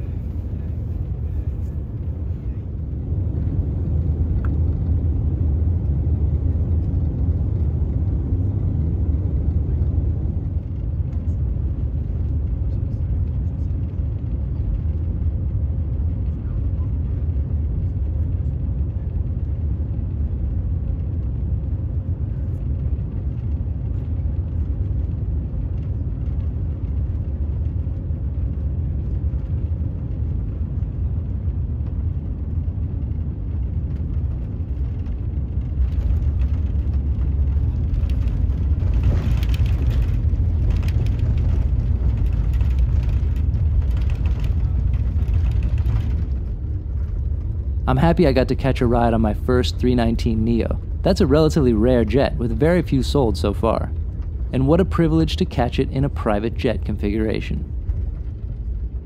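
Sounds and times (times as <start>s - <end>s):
jet touching down and rolling: 0.0s - 12.6s, 18.9s - 59.0s
aircraft cabin rumble: 0.0s - 59.0s.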